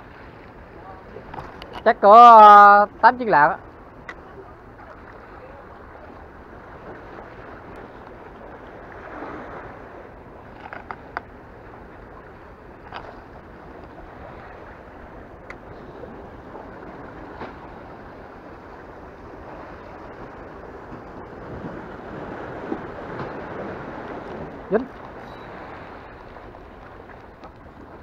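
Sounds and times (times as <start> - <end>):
sea water washing: 0.0 - 28.0.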